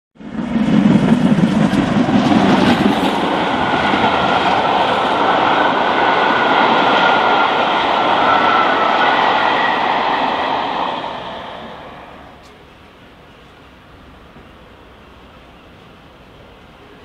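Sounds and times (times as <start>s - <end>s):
train rushing at speed: 0.2s - 17.0s.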